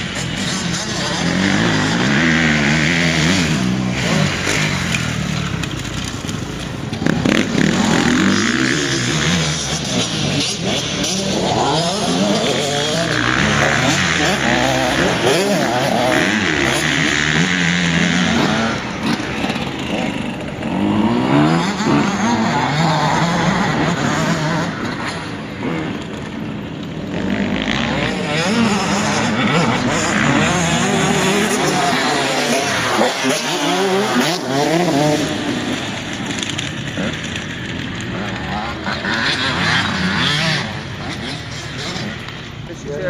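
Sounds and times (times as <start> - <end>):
motorcycle engine revving hard: 0.0 - 43.0.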